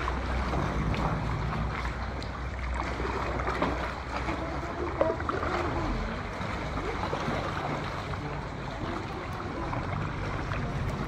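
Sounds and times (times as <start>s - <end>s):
low rumble: 0.0s - 11.0s
sea water washing: 0.0s - 11.0s.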